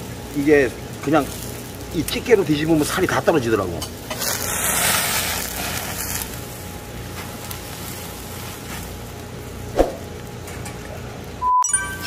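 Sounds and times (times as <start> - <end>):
fish sizzling on grill: 0.0 - 11.4.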